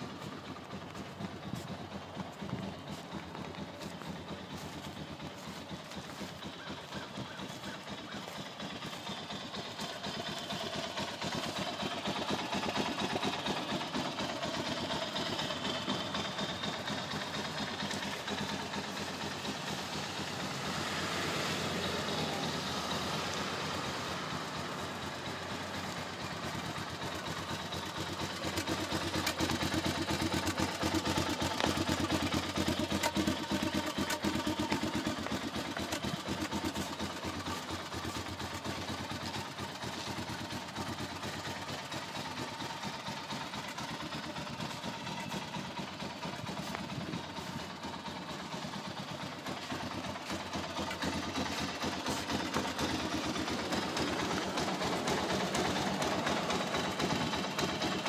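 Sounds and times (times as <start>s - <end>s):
atv engine idling: 0.0s - 58.0s.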